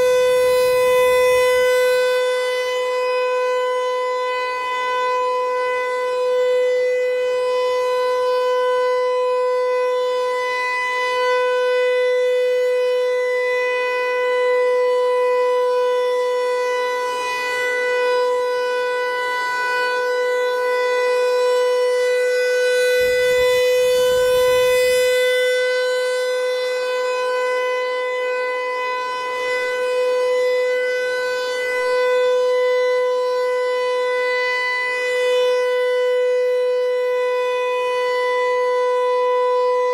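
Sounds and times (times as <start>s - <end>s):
electronic warning siren: 0.0s - 39.9s.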